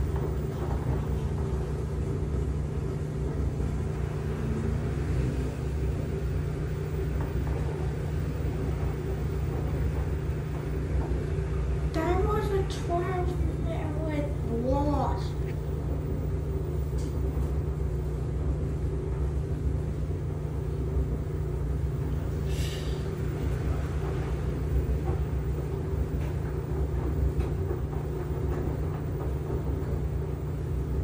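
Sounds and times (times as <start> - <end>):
washing machine rumbling: 0.0 - 31.0.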